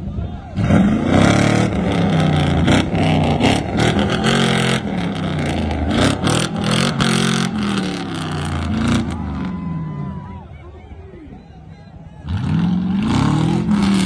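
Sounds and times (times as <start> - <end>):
off-road vehicle engine revving: 0.0 - 10.1, 12.2 - 14.0.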